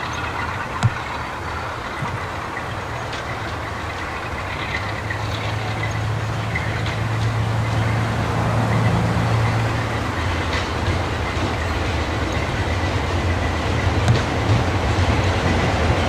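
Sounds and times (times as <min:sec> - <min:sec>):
diesel train engine: 0:00.0 - 0:16.0
train wheels clattering on track: 0:00.0 - 0:16.0.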